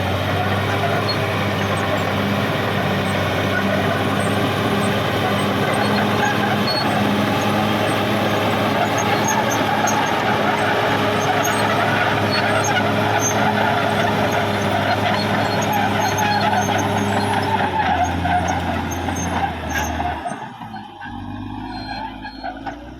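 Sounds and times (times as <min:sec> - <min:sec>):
bulldozer diesel engine running: 0:00.0 - 0:22.9.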